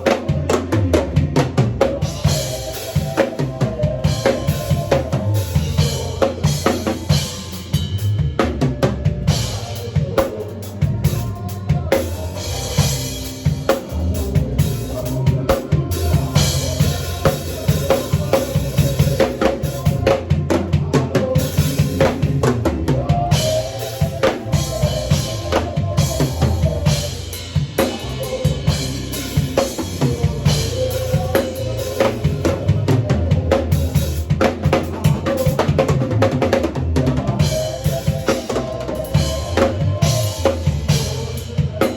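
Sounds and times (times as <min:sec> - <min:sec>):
drum kit groove: 0:00.0 - 0:41.9.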